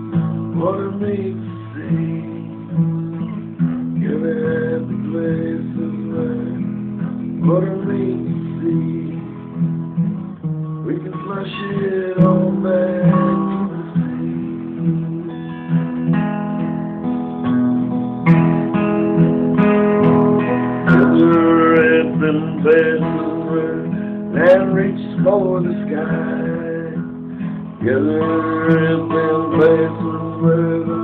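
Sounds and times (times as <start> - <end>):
man singing: 0.0 - 3.0, 3.6 - 9.8, 10.8 - 15.9, 20.4 - 31.0
acoustic guitar strumming: 0.0 - 31.0.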